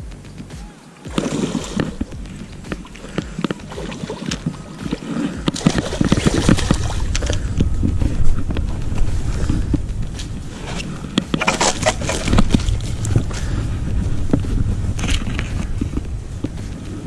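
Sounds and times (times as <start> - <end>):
low rumbling wind: 1.1 - 17.0.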